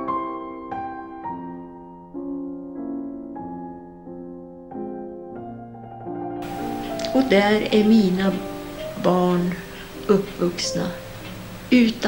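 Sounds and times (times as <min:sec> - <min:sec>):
slow gentle piano music: 0:00.0 - 0:12.0.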